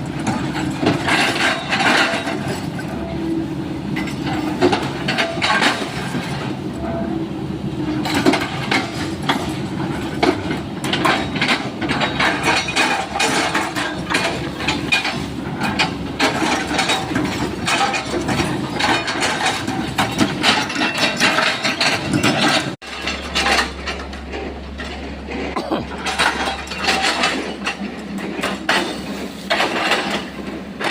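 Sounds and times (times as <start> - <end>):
excavator engine hum: 0.0 - 30.9.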